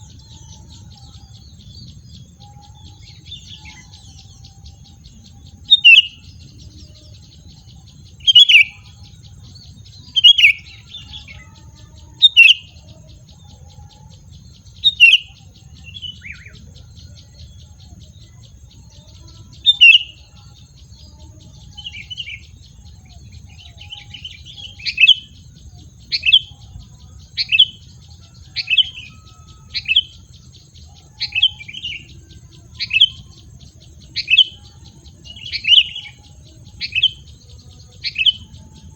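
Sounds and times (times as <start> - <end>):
high insect hum: 0.0 - 38.9.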